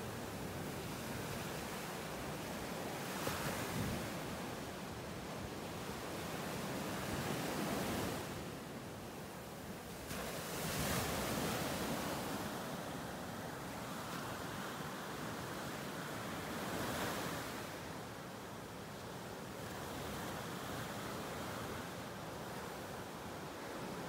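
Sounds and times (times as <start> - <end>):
waves breaking on sandy beach: 0.0 - 24.0.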